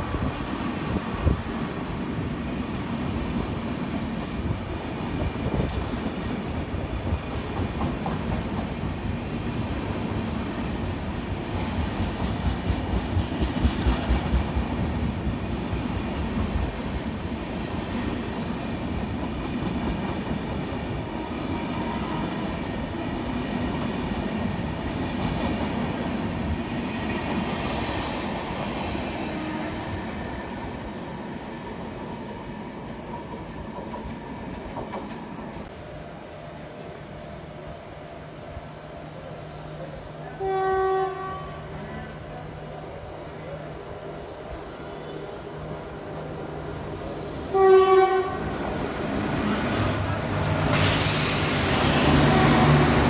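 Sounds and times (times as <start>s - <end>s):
train rail rumble: 0.0s - 53.0s.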